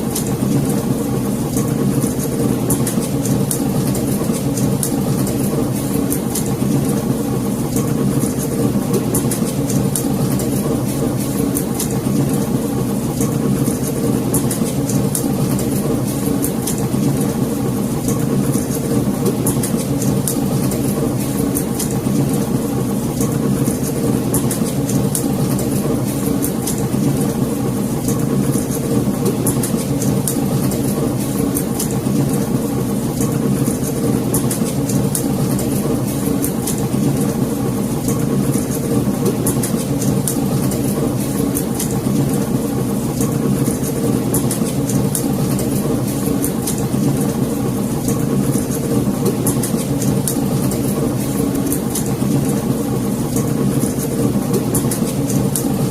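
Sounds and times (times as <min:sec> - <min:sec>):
low rumble of burning fire: 0:00.0 - 0:55.9
wood fire crackling and popping: 0:01.5 - 0:55.9.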